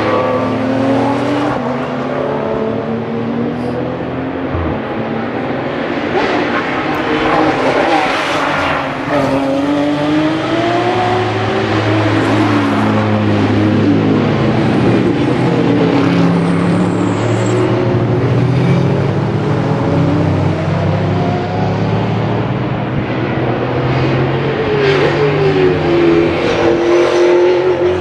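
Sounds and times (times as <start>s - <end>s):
race cars passing: 0.0s - 28.0s.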